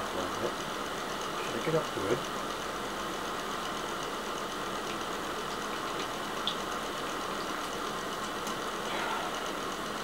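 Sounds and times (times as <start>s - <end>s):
electric fan running: 0.0s - 10.0s.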